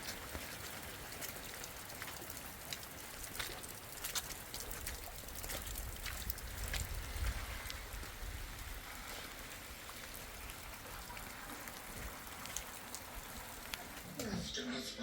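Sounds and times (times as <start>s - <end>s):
rain falling: 0.0s - 14.4s
sharp drip impacts: 0.0s - 14.4s.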